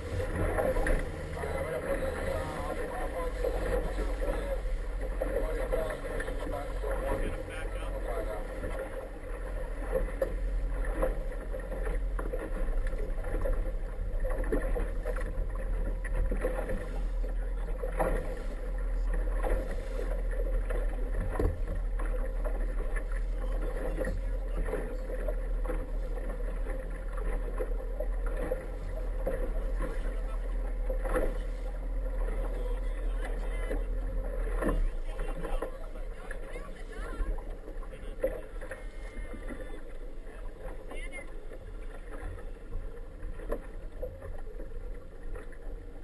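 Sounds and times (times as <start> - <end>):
boat motor low hum: 0.0 - 46.0
water splashing against hull: 0.0 - 46.0.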